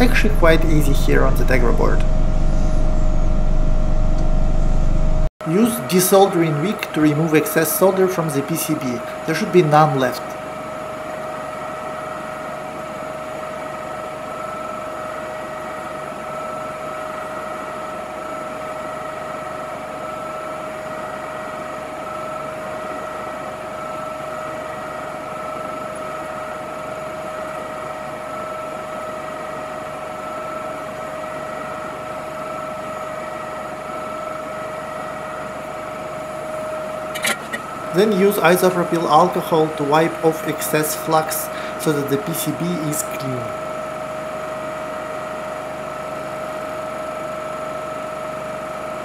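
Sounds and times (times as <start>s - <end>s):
small fan motor humming: 0.0s - 49.0s.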